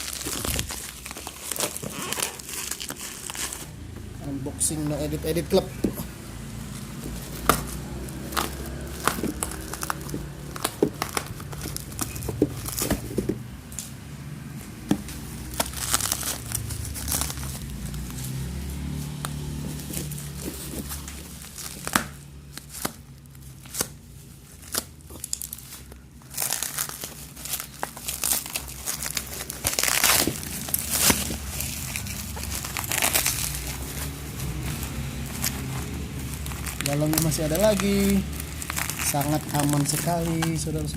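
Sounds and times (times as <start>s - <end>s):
packaging crumpled and torn: 0.0s - 3.8s, 7.2s - 13.3s, 15.2s - 40.9s.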